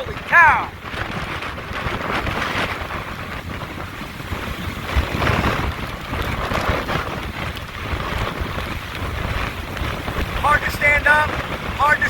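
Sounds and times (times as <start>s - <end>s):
wind roaring and buffeting microphone: 0.0s - 12.0s.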